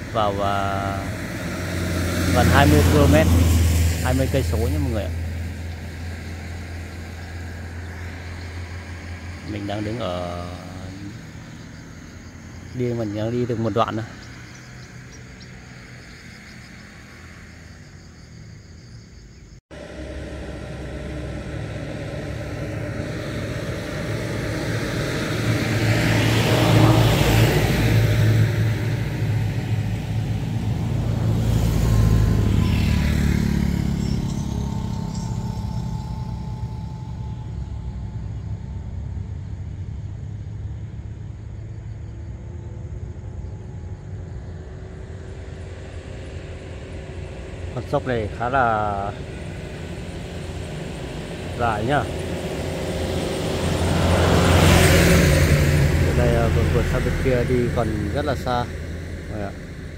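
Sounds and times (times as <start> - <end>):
vehicles driving past: 0.0 - 59.9.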